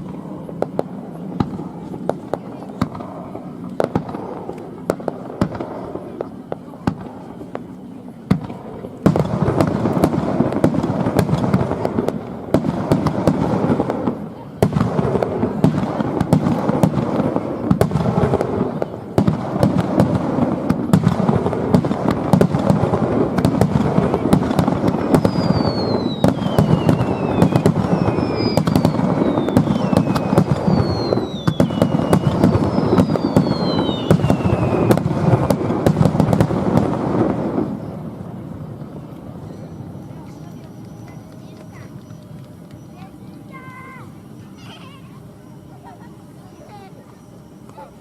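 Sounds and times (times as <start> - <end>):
sharp fireworks cracks: 0.0 - 45.8
fireworks booming and crackling: 0.0 - 45.9
descending firework whistles: 0.0 - 48.0.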